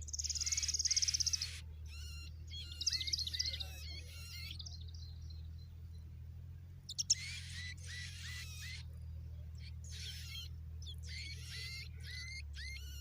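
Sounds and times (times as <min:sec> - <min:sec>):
sharp bird chirps: 0:00.0 - 0:06.1, 0:06.9 - 0:09.0, 0:09.6 - 0:13.0
young birds trilling: 0:00.0 - 0:13.0.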